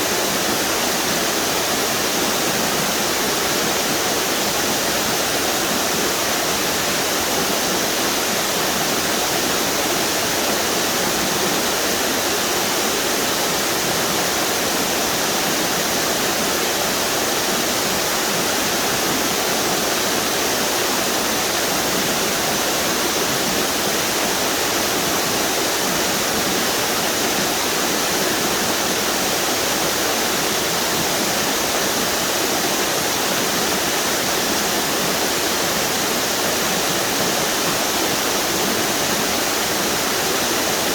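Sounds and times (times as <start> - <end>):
waterfalls rushing: 0.0 - 40.9.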